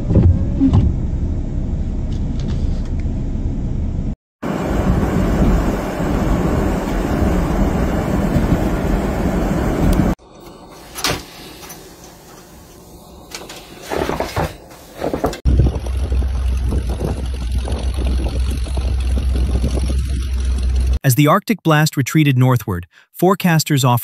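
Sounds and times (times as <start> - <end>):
snow vehicle engine rumbling: 0.0 - 21.0.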